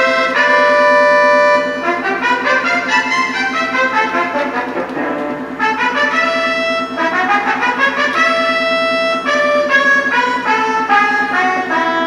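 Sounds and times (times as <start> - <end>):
synthesizer brass melody: 0.0 - 12.0.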